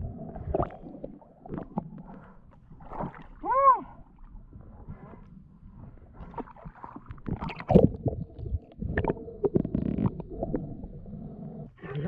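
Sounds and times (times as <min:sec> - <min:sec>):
water splashing and gurgling: 0:00.0 - 0:12.0.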